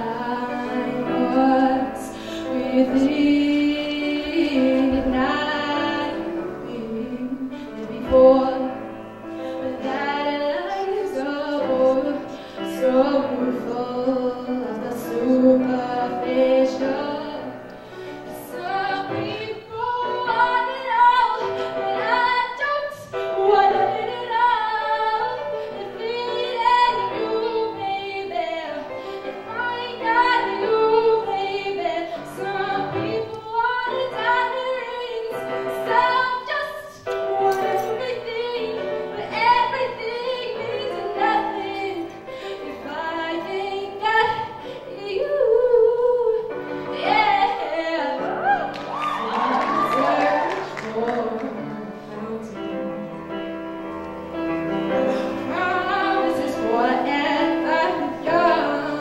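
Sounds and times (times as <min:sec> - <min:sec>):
woman singing: 0:00.0 - 0:53.5, 0:55.1 - 0:59.0
grand piano: 0:00.0 - 0:59.0.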